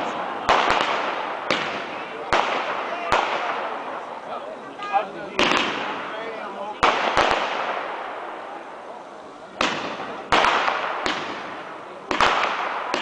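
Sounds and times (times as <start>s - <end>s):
fireworks bursting: 0.0s - 4.3s, 5.2s - 13.0s.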